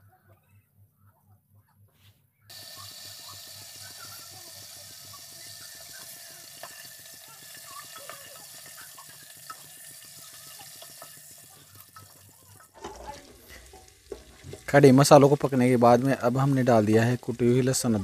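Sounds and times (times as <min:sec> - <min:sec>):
spices sizzling in hot oil: 0:02.5 - 0:18.0.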